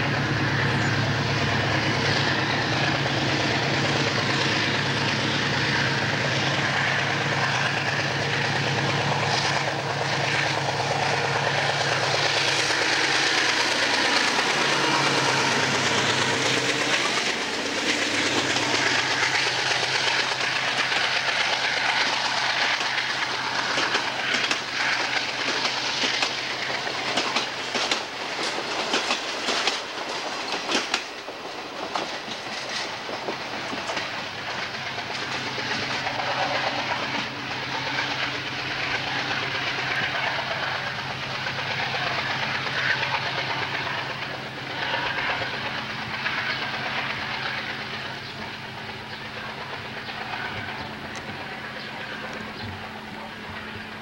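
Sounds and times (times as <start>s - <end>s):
train rolling rumble: 0.0s - 54.0s
wheels clicking over rail joints: 1.7s - 53.6s.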